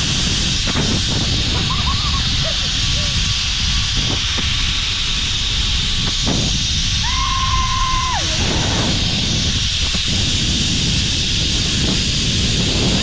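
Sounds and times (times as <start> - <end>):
wind buffeting microphone: 0.0 - 13.0
zip line trolley hissing on cable: 0.0 - 13.0.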